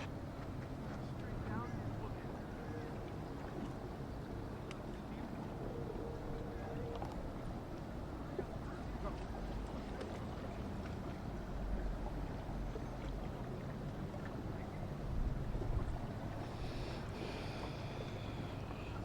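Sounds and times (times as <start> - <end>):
boat engines running: 0.0 - 19.0
moving water: 0.0 - 19.0.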